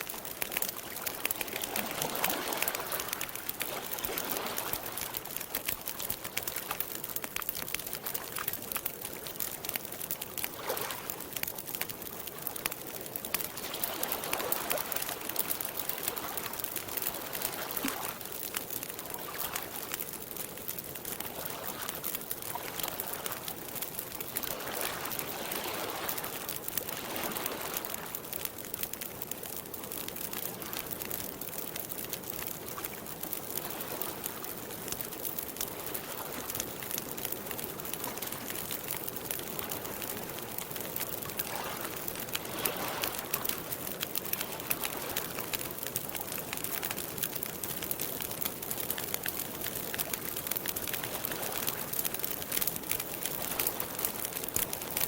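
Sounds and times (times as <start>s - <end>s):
water washing softly: 0.0s - 28.9s, 29.6s - 45.6s
campfire crackling and popping: 0.0s - 55.0s.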